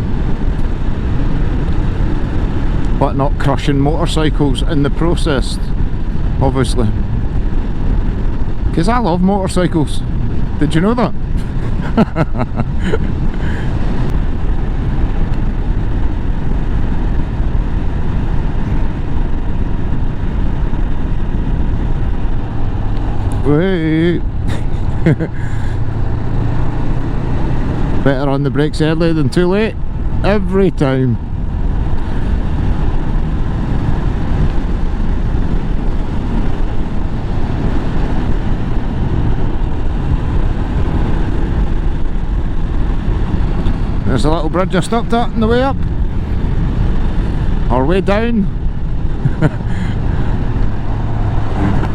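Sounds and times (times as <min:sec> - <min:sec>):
motorcycle engine and wind rumble: 0:00.0 - 0:51.9.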